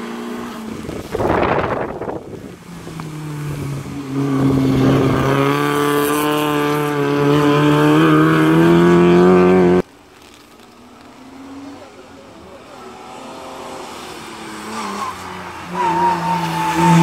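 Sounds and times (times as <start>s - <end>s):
rally car engine at high revs: 0.0s - 9.9s, 11.1s - 17.0s.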